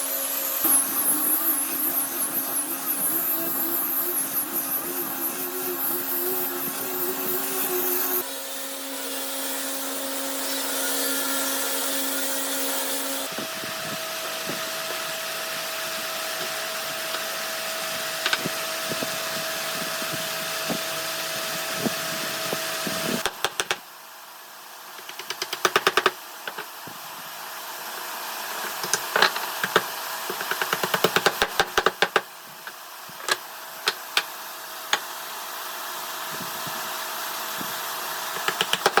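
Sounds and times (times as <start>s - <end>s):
electric woodworking power tools: 0.0s - 23.8s, 24.6s - 39.0s.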